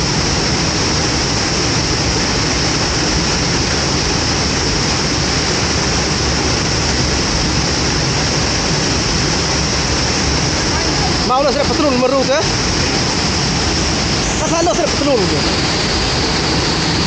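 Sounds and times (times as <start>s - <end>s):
waterfall crashing: 0.0s - 17.0s.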